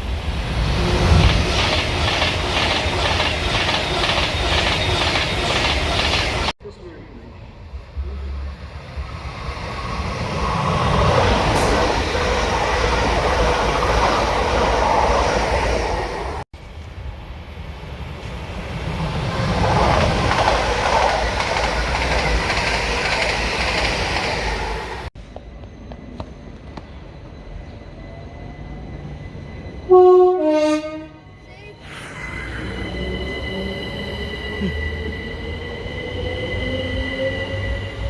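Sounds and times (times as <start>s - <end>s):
train passing on track: 0.0s - 38.0s.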